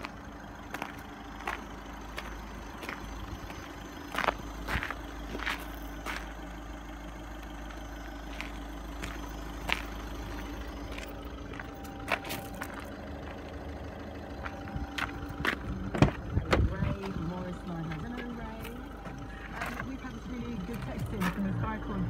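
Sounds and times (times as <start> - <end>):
diesel engine idling: 0.0 - 22.0
footsteps on gravel: 0.0 - 22.0.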